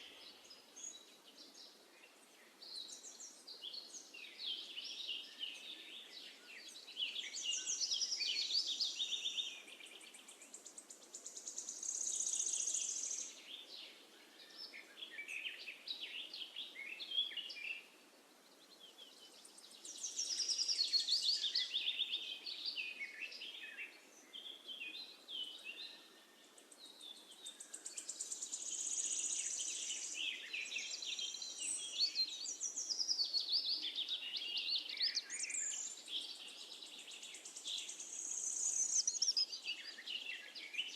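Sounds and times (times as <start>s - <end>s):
faint background hiss: 0.0s - 40.9s
songbirds singing: 0.0s - 40.9s.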